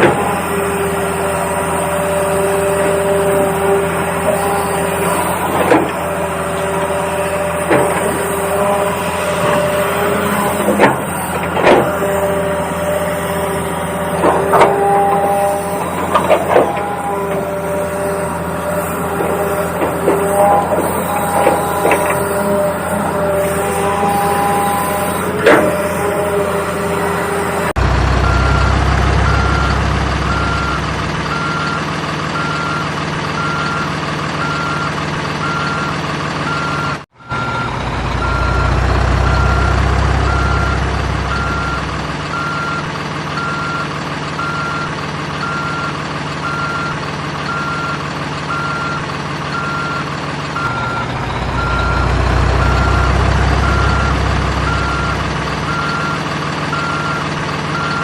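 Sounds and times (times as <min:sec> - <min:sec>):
heavy machine engine running: 0:00.0 - 0:58.0
reversing alarm beeps: 0:00.0 - 0:58.0.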